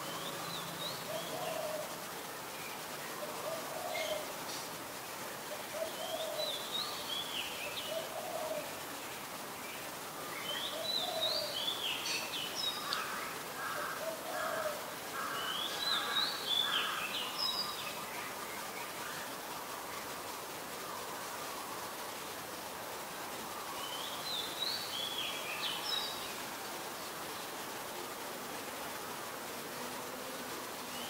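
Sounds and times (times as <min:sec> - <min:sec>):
rain hiss: 0:00.0 - 0:31.0.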